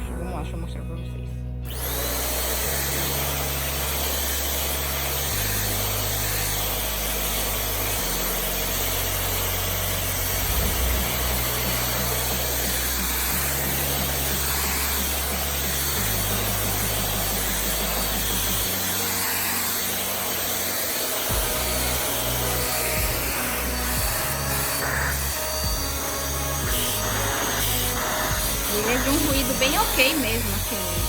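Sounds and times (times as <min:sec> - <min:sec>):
vacuum cleaner running: 0:01.7 - 0:31.0.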